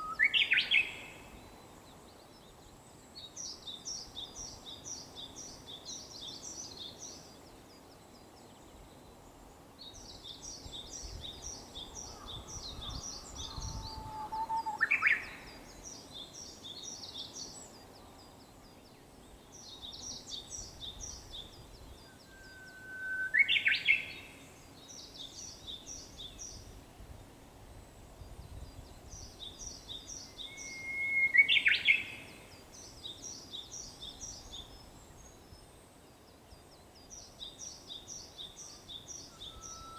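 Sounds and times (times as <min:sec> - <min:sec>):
bush warbler whistling song: 0:00.0 - 0:26.8, 0:27.8 - 0:39.9.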